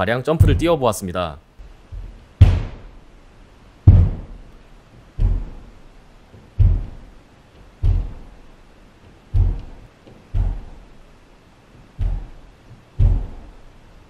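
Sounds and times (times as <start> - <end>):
deep thuds through ceiling: 0.3 - 0.9, 1.6 - 14.0.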